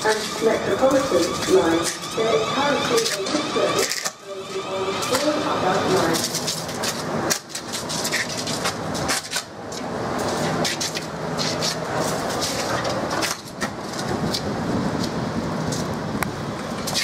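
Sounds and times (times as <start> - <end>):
train running past: 0.0 - 17.0.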